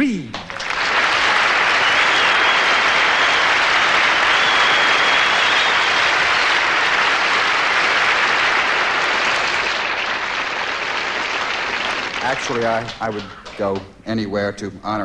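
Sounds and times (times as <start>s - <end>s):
large audience applauding: 0.3s - 14.0s.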